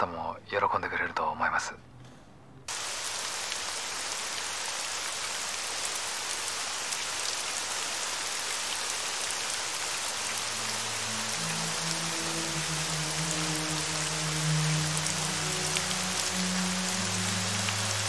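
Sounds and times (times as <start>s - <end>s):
heavy rain falling: 2.7s - 18.0s.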